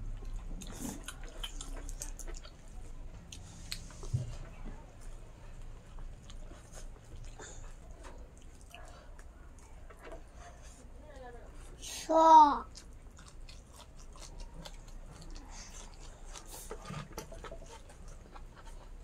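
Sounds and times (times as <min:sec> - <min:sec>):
chewing and mouth smacks: 0:00.0 - 0:10.6, 0:12.7 - 0:19.0.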